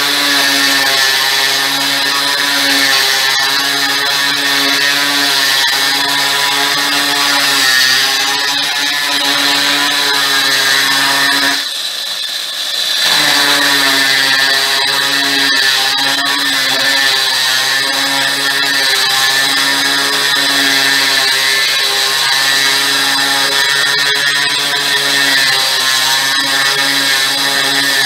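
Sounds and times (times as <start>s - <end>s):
electric drill grinding through stone: 0.0s - 28.0s.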